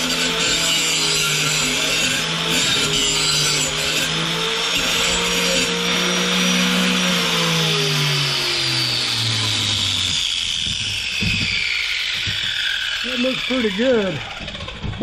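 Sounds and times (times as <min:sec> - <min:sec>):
electric grinder grinding steel: 0:00.0 - 0:15.0
grinder wheel spinning down: 0:00.0 - 0:15.0.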